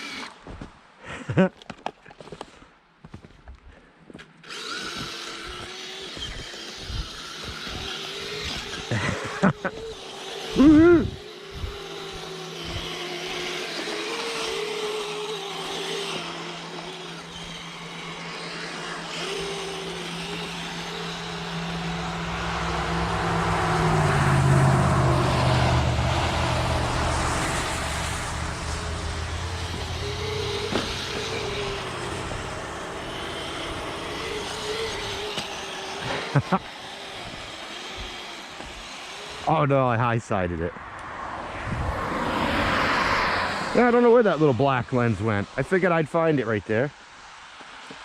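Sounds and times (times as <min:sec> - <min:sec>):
electric motors whining: 0:00.0 - 0:00.6, 0:04.2 - 0:40.2, 0:40.8 - 0:46.3.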